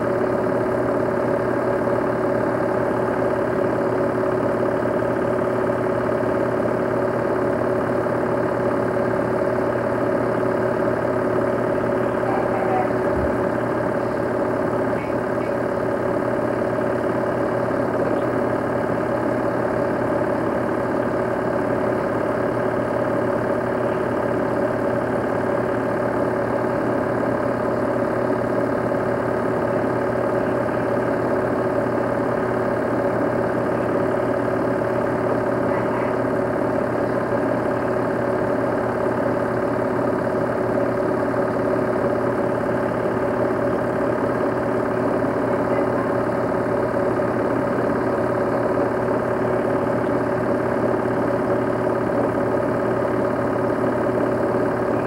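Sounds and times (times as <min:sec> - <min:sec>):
film projector hum: 0:00.0 - 0:55.0.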